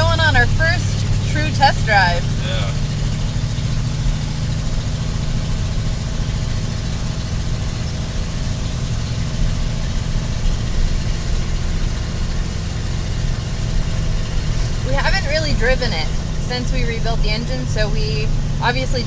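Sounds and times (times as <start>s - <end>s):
engine running at low speed: 0.0s - 19.0s.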